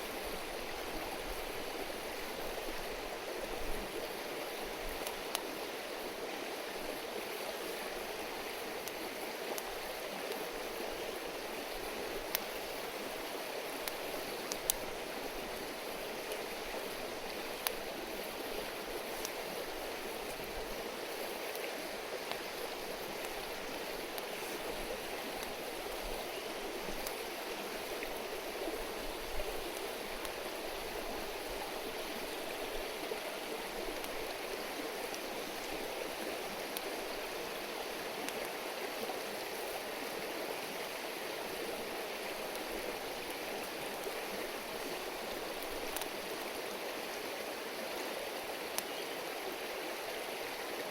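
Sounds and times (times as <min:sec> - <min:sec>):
stream running over rocks: 0:00.0 - 0:50.9.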